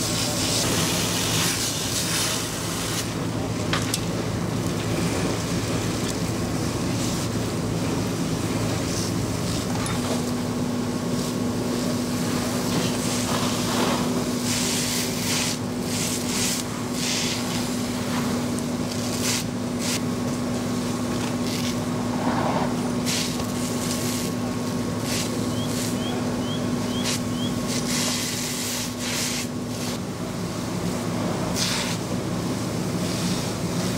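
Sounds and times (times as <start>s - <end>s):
hose water spraying: 0.0s - 3.2s, 6.6s - 30.1s, 30.9s - 33.9s
fire engine pump humming: 0.0s - 33.9s.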